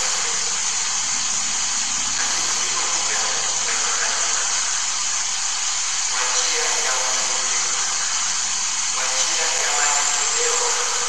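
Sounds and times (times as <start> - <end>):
fan blowing with loud hiss: 0.0 - 11.0.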